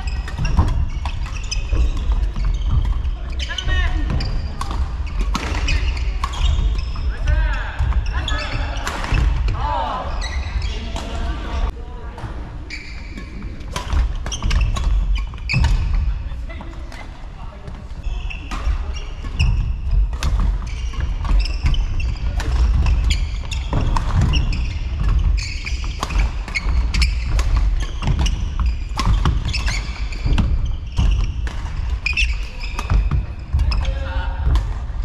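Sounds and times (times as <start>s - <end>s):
shoes squeaking on court floor: 0.0s - 11.7s, 12.6s - 35.0s.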